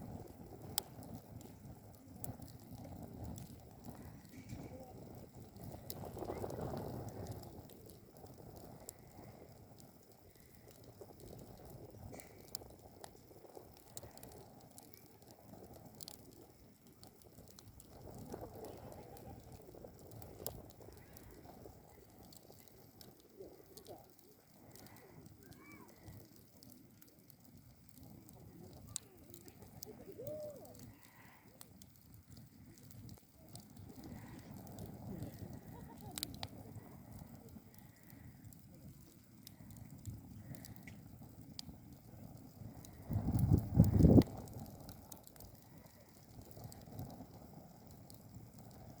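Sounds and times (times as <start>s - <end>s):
low rumble of flame: 0.0s - 49.0s
wood fire crackling and popping: 0.0s - 49.0s.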